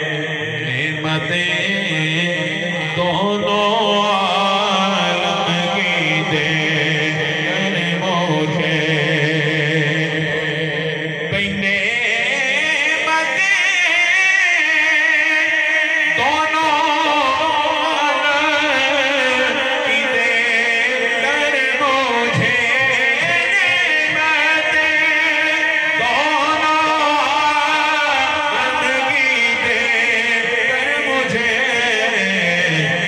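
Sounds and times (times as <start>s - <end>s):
men chanting devotional melody: 0.0s - 33.0s.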